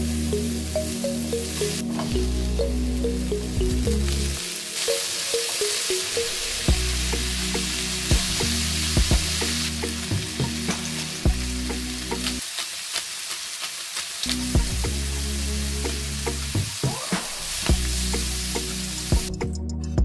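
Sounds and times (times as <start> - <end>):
background music with low notes: 0.0 - 12.4, 14.3 - 20.0
food sizzling in a frying pan: 0.0 - 19.3.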